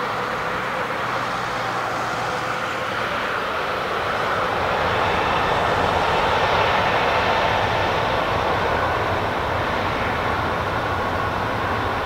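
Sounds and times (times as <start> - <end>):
jet engines roaring with whine: 0.0 - 12.0.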